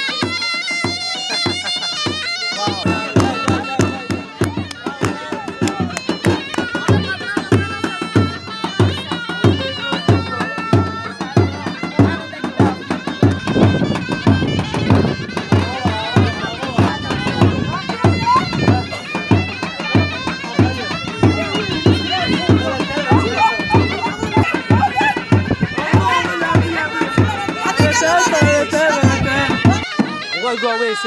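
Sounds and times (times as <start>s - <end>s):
shrill double-reed pipe melody: 0.0s - 31.0s
bass drum beat: 2.8s - 30.1s.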